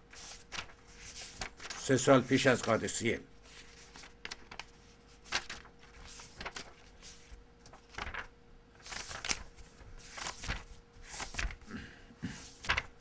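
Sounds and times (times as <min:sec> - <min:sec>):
faint electrical hum: 0:00.0 - 0:13.0
book pages rustling: 0:00.1 - 0:11.6, 0:12.3 - 0:13.0.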